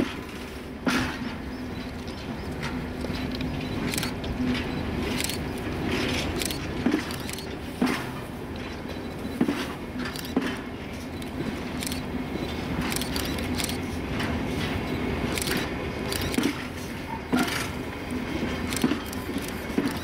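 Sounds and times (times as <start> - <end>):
train wheels clanking over rail joints: 0.0 - 20.0.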